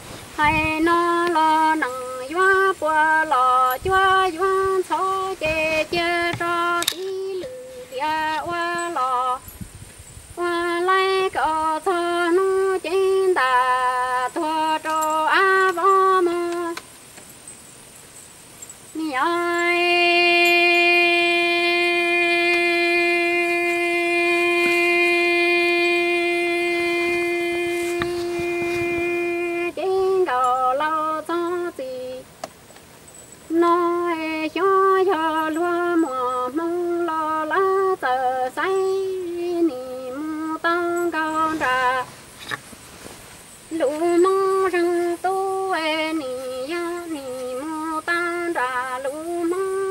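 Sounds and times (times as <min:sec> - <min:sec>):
woman singing long sliding notes: 0:00.4 - 0:09.5, 0:10.4 - 0:16.9, 0:19.0 - 0:32.4, 0:33.5 - 0:42.2, 0:43.7 - 0:49.9.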